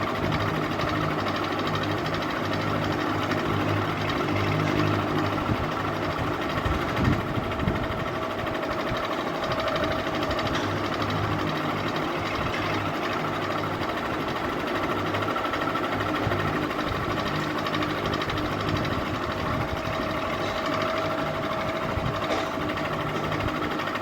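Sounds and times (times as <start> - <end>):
ceiling fan humming: 0.0 - 24.0.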